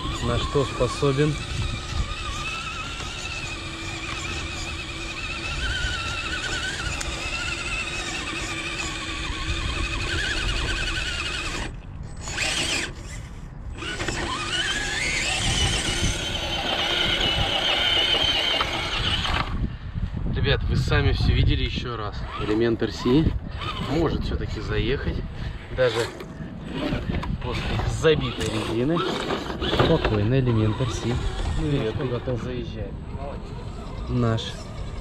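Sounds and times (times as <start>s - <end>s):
toy car electric motor whining: 0.0s - 19.7s, 22.2s - 24.6s, 25.6s - 32.4s, 33.2s - 35.0s.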